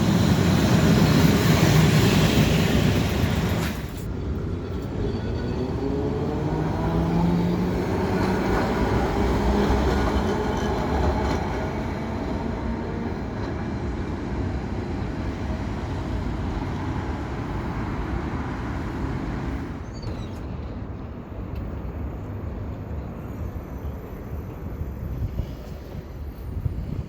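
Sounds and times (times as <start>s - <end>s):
tram rumbling on track: 0.0s - 27.0s.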